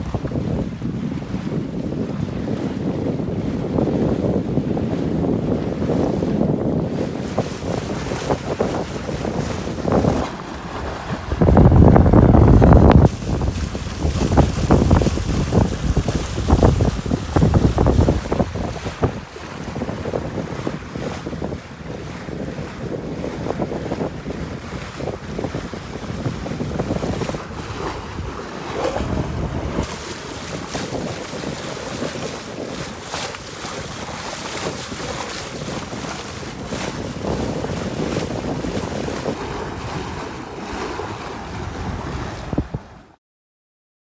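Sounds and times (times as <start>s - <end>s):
water rushing along hull: 0.0s - 43.2s
wind buffeting microphone: 0.0s - 43.2s.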